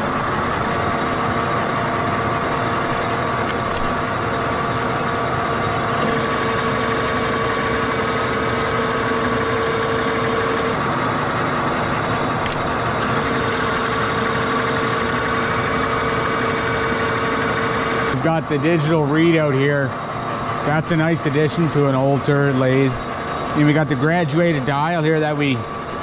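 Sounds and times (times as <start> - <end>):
lathe running with whining tone: 0.0 - 26.0.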